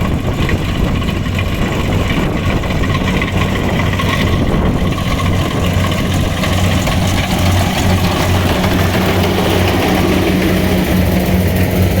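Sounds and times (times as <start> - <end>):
harvester engine running: 0.0 - 12.0
machinery noise: 0.0 - 12.0.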